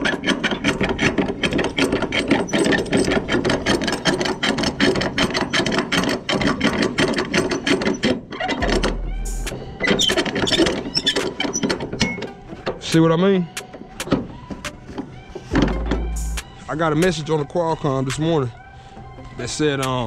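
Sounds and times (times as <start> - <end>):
strap roller clicking: 0.0 - 16.5.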